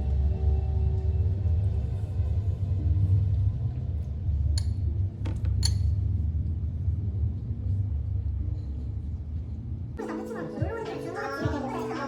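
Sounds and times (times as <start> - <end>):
steady low rumble: 0.0 - 10.0
faint background music: 0.0 - 12.0.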